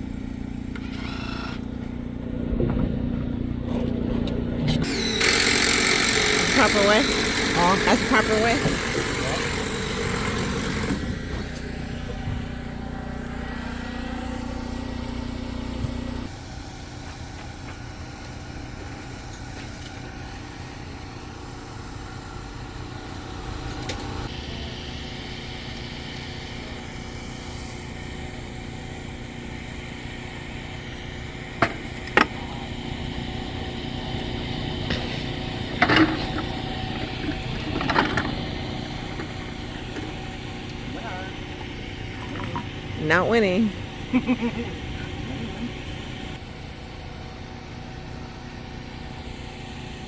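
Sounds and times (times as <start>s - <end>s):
engine running: 0.0s - 50.0s.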